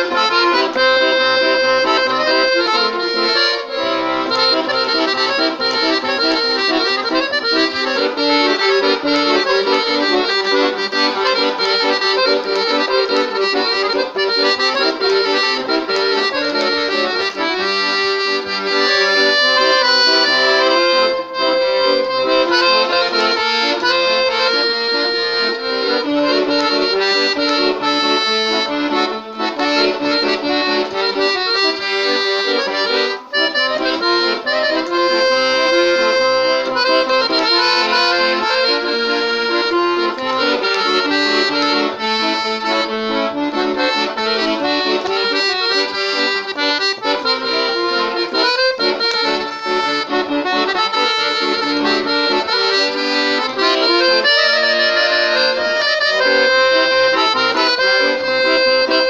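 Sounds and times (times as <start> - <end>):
solo accordion melody: 0.0 - 59.0.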